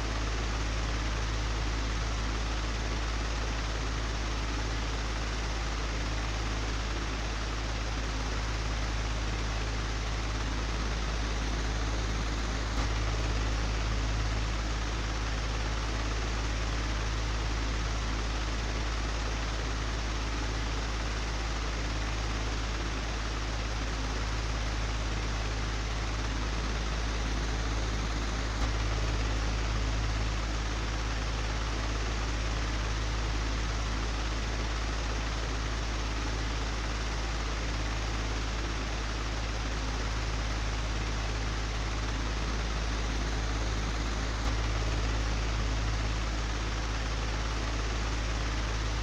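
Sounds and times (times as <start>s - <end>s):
electric fan running: 0.0s - 49.0s.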